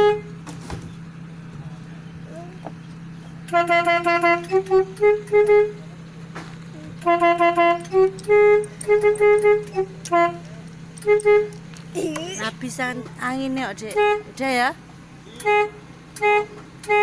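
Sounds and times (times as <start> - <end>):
bus horn playing a tune: 0.0 - 0.5, 3.4 - 17.0
steady low hum: 0.0 - 17.0.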